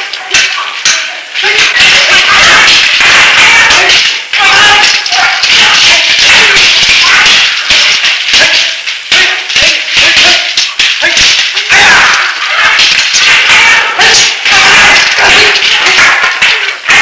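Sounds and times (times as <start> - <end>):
swords clashing: 0.0 - 17.0.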